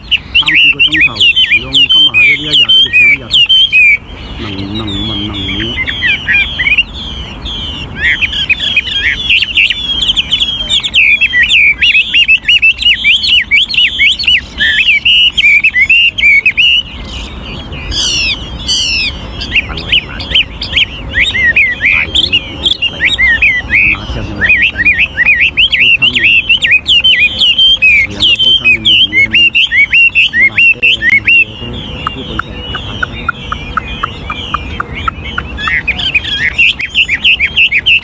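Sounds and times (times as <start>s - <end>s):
bird singing whistled phrases: 0.0s - 38.0s.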